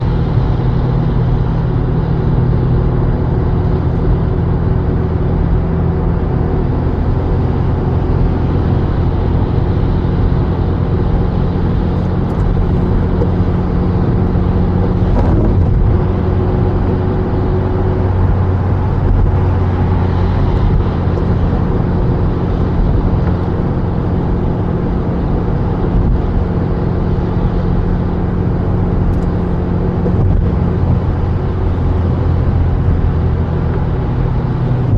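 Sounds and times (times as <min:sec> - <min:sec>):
car engine hum: 0:00.0 - 0:34.9
road noise: 0:00.0 - 0:34.9.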